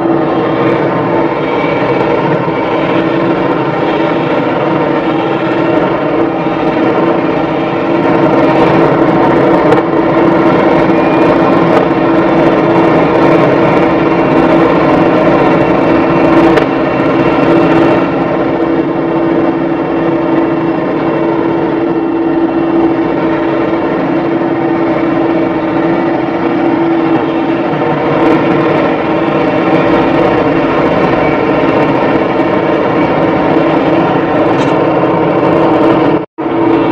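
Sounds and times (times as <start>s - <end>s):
diesel engine droning: 0.0s - 36.9s.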